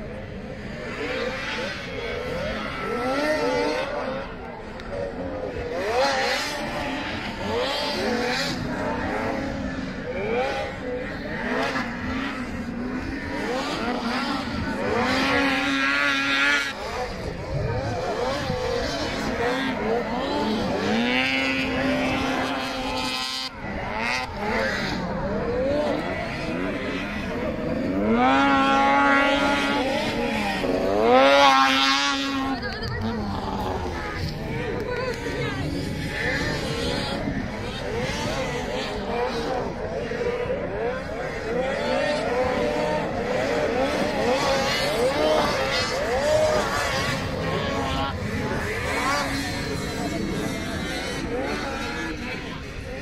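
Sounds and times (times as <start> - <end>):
snowmobile engines revving: 0.0 - 53.0.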